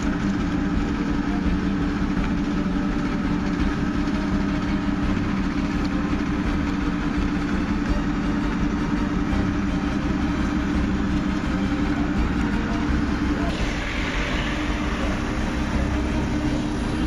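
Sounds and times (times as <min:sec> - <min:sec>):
diesel paving machinery running: 0:00.0 - 0:17.0.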